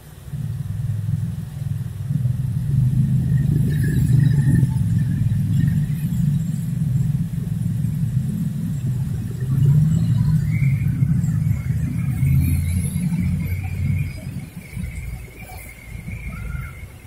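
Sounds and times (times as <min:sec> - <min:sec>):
cars passing on wet street: 0:00.0 - 0:17.0
road traffic rumble: 0:00.0 - 0:17.0.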